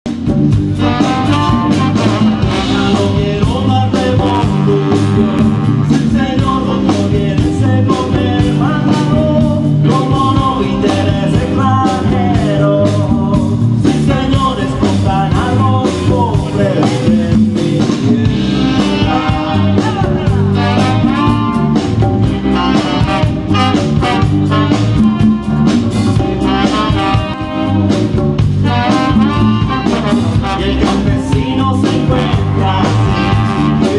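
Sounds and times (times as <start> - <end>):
live band playing: 0.0 - 33.9
electric guitar: 0.1 - 33.9
trombone: 0.1 - 33.9
saxophone: 0.2 - 12.8, 16.4 - 33.9.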